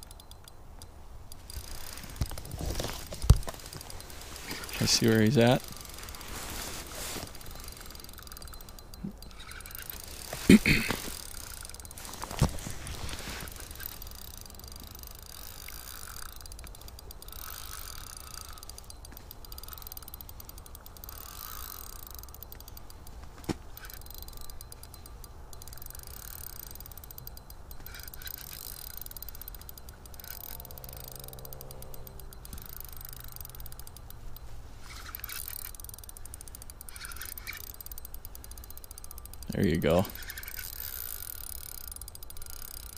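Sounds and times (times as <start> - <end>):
fishing reel clicking: 0.0 - 42.9.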